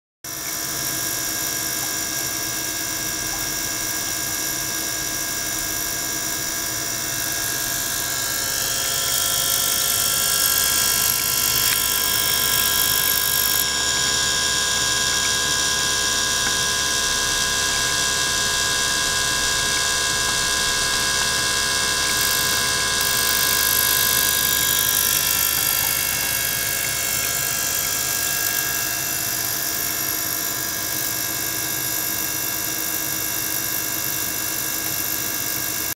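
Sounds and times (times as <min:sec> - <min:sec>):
circulation pump whine: 0:00.3 - 0:35.9.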